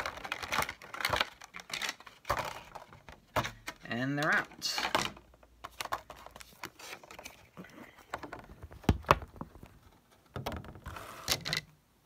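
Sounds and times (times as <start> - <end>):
plastic packaging tray handled: 0.0 - 11.7.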